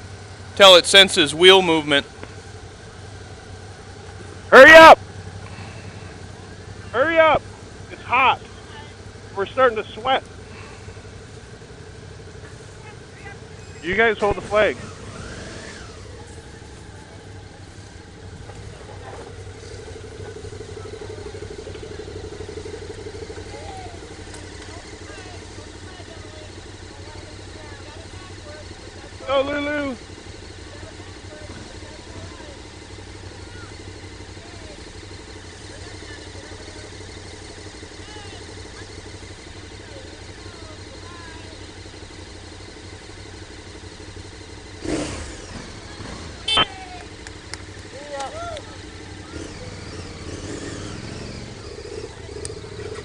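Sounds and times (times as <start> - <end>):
motorcycle engines idling: 0.0 - 53.0.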